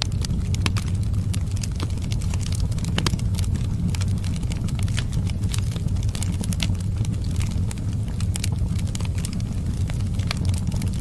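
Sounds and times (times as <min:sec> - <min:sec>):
fire crackling and popping: 0:00.0 - 0:11.0
fire low rumble: 0:00.0 - 0:11.0.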